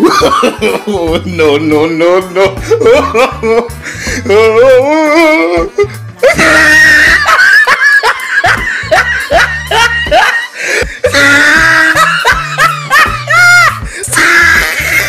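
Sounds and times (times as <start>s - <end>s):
music with heavy bass line: 0.0s - 15.0s
shrieks or laughter: 2.6s - 15.0s.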